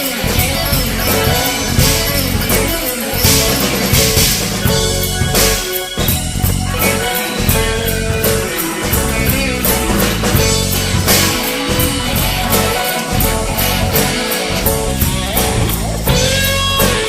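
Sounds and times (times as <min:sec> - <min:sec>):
drum kit beat: 0:00.0 - 0:17.0
electric guitar: 0:00.0 - 0:17.0.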